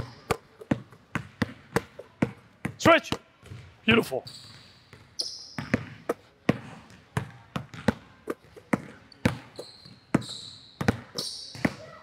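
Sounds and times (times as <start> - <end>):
sneaker squeak: 0.0 - 2.8, 3.4 - 12.0
basketball bouncing on hardwood: 0.0 - 3.8, 4.9 - 11.9.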